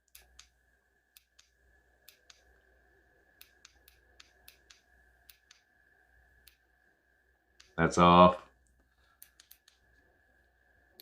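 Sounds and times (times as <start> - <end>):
faint high hum: 0.0 - 11.0.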